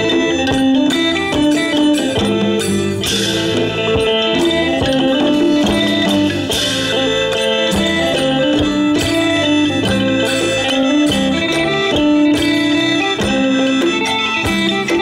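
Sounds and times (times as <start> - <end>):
drums: 0.0 - 15.0
plucked lutes melody: 0.0 - 15.0.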